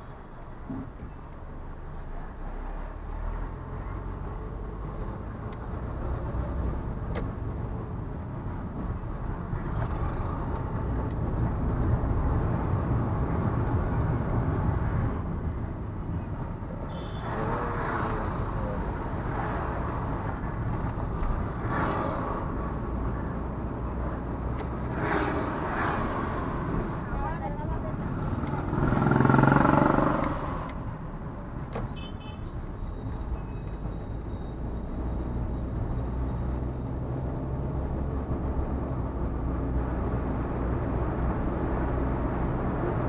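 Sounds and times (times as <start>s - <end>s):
vehicle engine and tyre rumble: 0.0s - 43.0s.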